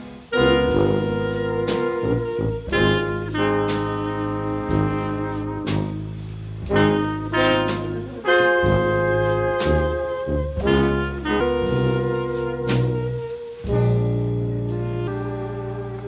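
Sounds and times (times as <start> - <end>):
horn-led jazz music: 0.0 - 16.0.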